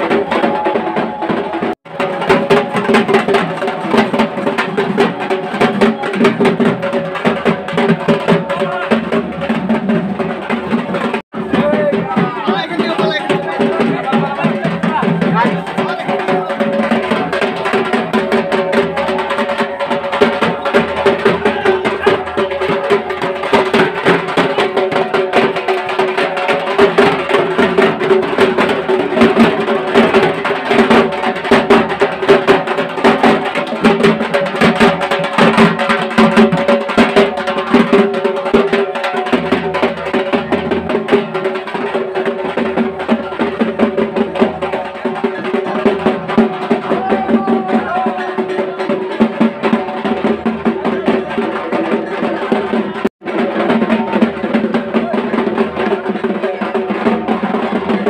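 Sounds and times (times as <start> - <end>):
fast dense drumming: 0.0 - 58.0.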